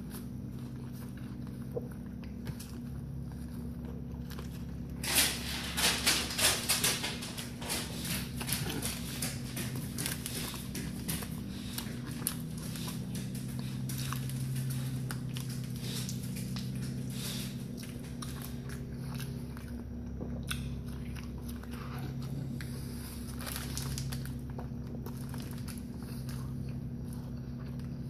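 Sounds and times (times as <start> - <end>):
man chewing wetly: 0.0 - 5.0, 7.5 - 28.0
steady low hum: 0.0 - 28.0.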